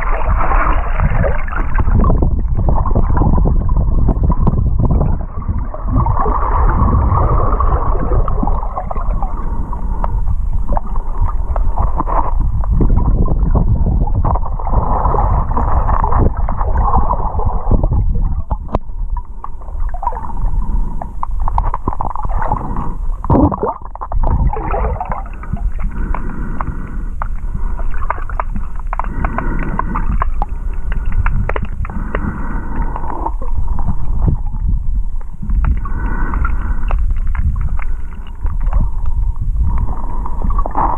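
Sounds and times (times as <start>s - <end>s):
underwater river gurgle: 0.0s - 40.9s.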